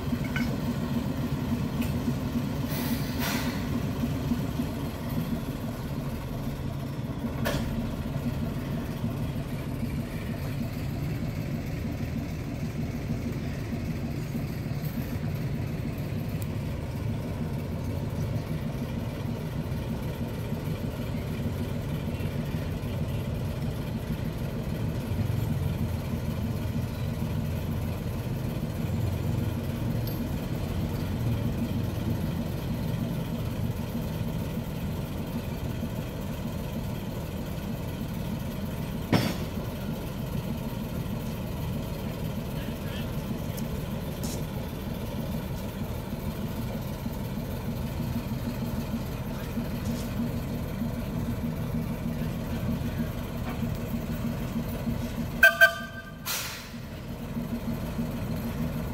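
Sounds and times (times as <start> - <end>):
locomotive engine idling: 0.0 - 58.9.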